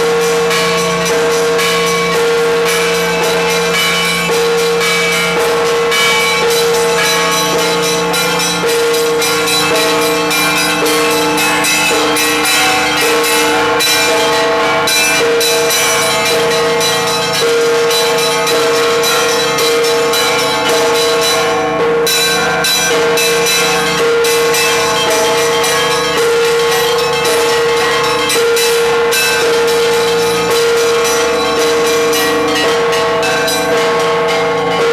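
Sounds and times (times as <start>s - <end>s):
mid-pitched bell tolling: 0.0s - 34.9s
small high bells ringing rapidly: 0.0s - 34.9s.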